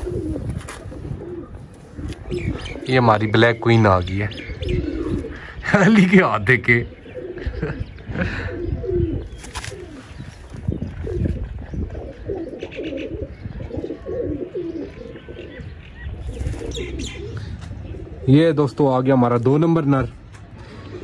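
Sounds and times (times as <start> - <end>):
pigeons cooing: 0.0 - 19.0, 20.2 - 21.0.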